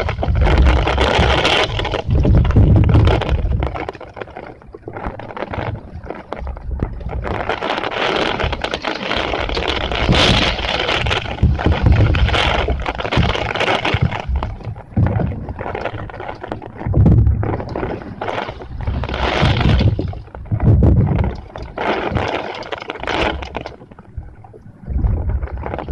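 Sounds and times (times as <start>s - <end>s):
wind buffeting microphone: 0.0s - 3.9s, 5.6s - 22.4s
heavy rain rushing: 0.0s - 4.0s, 4.8s - 23.7s
gusting wind: 0.0s - 25.9s.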